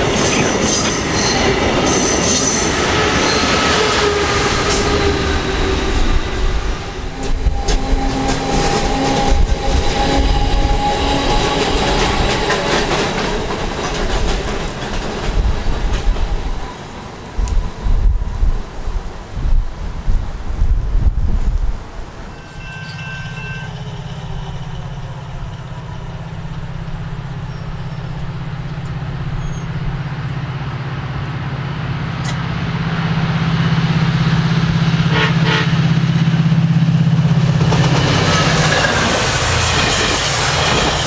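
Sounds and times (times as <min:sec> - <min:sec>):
diesel locomotive engine droning: 0:00.0 - 0:19.7, 0:20.3 - 0:41.0
train coaches rushing rail noise: 0:00.0 - 0:41.0.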